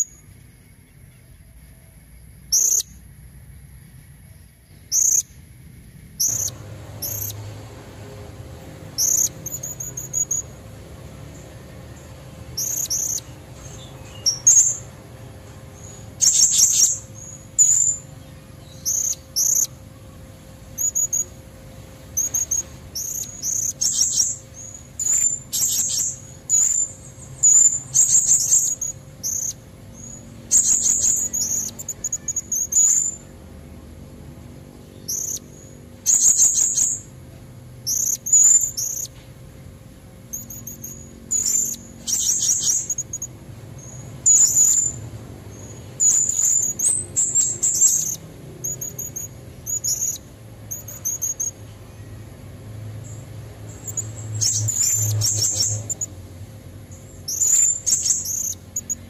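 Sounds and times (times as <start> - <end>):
parrot high-pitched chirps: 2.5 - 3.0, 4.9 - 5.4, 6.2 - 39.2, 40.2 - 52.4, 53.0 - 56.2, 57.0 - 59.0.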